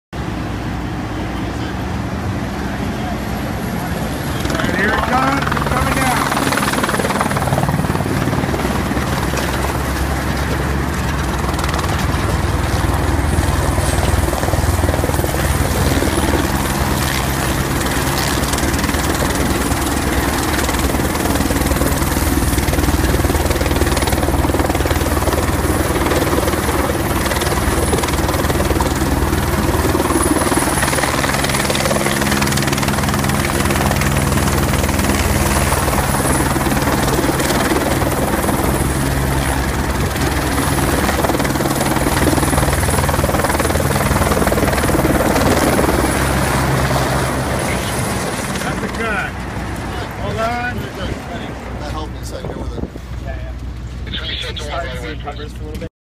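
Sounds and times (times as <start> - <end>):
helicopter rotor beating: 0.2 - 55.8.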